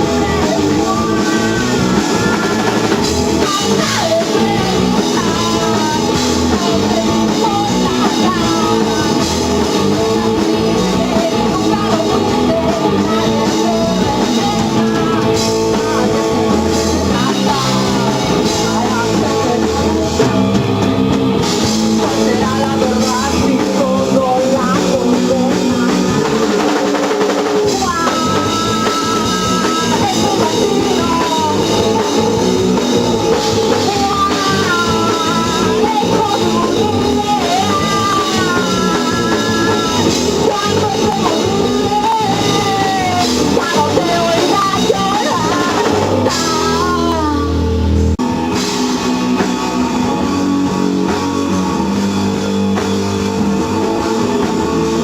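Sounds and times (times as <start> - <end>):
drum kit: 0.0 - 55.0
electric guitars: 0.0 - 55.0
person singing: 0.0 - 55.0.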